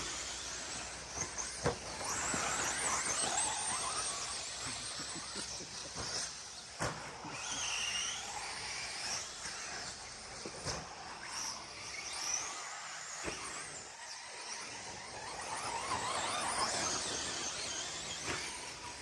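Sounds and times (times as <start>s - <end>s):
rc truck electric motors whining: 0.0s - 19.0s.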